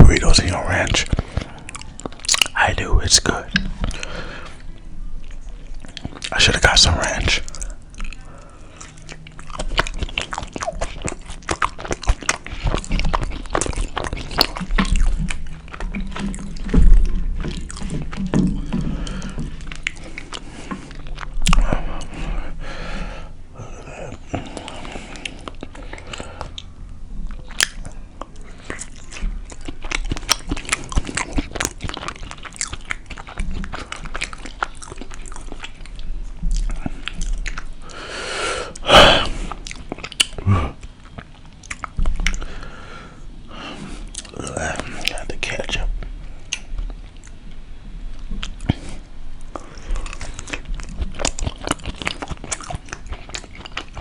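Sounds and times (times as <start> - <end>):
chewing and biting food: 0.0 - 2.6, 3.4 - 22.6, 23.9 - 54.0.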